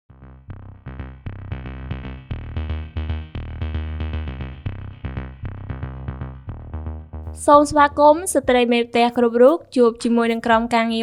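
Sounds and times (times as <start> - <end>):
electronic music with heavy bass: 0.1 - 9.7.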